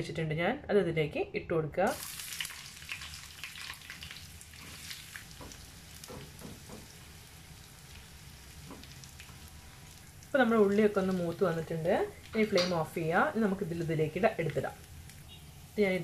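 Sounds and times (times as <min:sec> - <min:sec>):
shallots sizzling in oil: 0:01.9 - 0:16.0.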